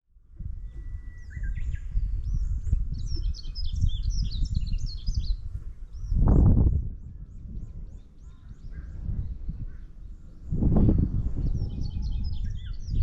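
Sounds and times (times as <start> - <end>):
songbird singing: 0.4 - 13.0.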